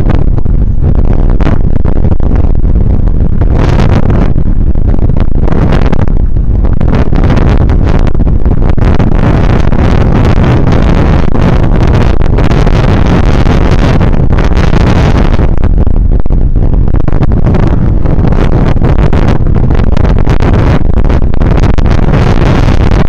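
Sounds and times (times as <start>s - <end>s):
crackle from road vibration: 0.0s - 23.0s
wind buffeting microphone: 0.0s - 23.0s.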